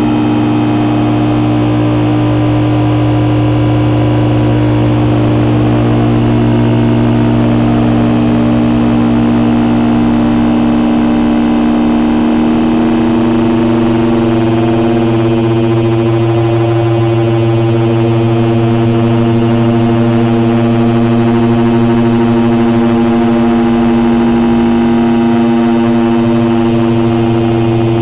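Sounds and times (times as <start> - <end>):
electronic drone with held tones: 0.0 - 28.0.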